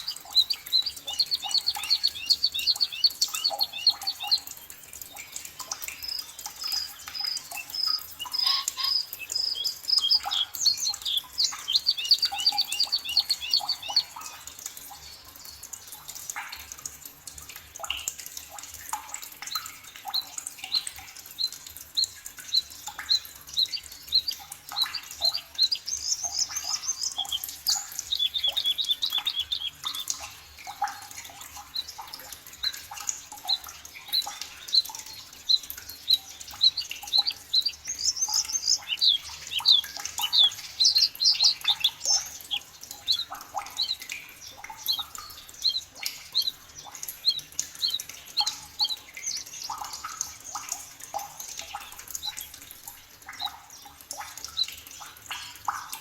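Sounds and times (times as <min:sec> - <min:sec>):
birds singing and chirping: 0:00.0 - 0:15.6, 0:19.4 - 0:52.6.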